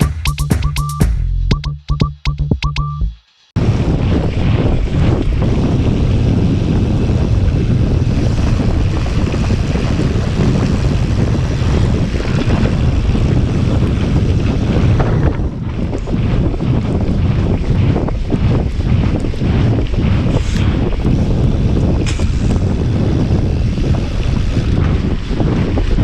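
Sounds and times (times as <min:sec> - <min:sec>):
wind buffeting microphone: 0:03.6 - 0:26.0.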